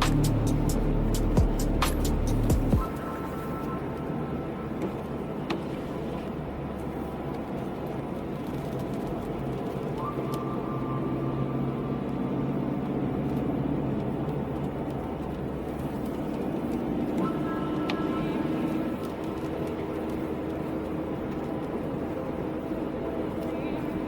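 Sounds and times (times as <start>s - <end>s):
car engine hum: 0.0s - 24.0s
faint steady whine: 0.0s - 24.0s
road noise: 0.0s - 24.0s.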